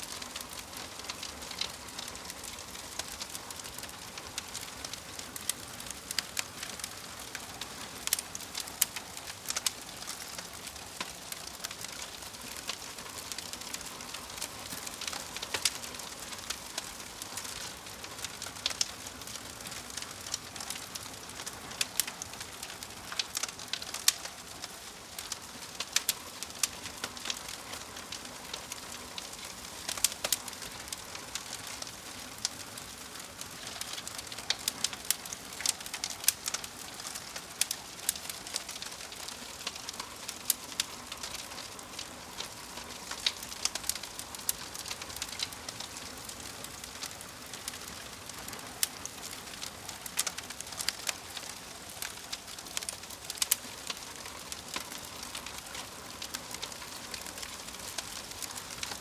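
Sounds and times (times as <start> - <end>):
logs crackling and popping: 0.0 - 59.0
fire hissing: 0.1 - 59.0.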